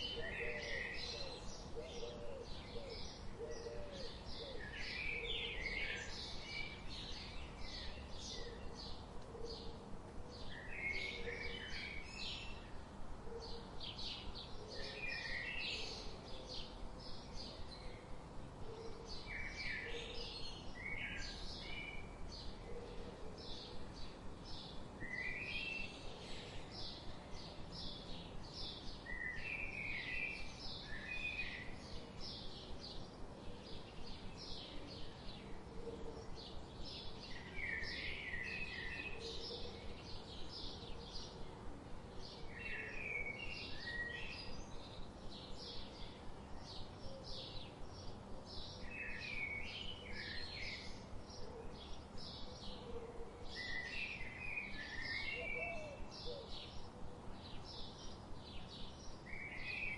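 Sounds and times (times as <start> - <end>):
songbirds chirping: 0.0 - 59.9
steady background hiss: 0.0 - 59.9.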